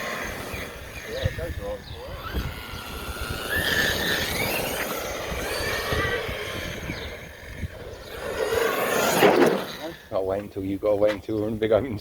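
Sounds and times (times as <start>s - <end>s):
electric motor whining: 0.0s - 10.1s
tyre and drivetrain noise: 0.0s - 10.1s.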